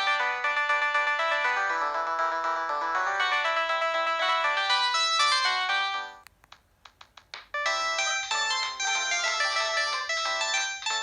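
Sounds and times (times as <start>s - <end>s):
synthesized ringtone melody: 0.0s - 6.2s, 7.6s - 11.0s.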